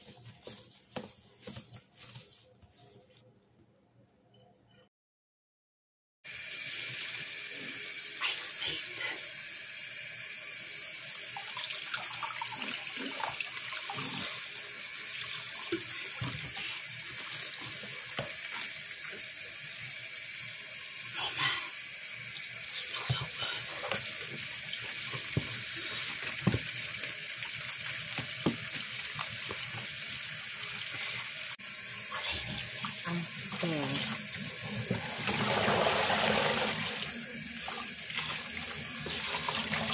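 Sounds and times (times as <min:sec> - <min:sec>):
faucet running into water: 0:06.3 - 0:39.9.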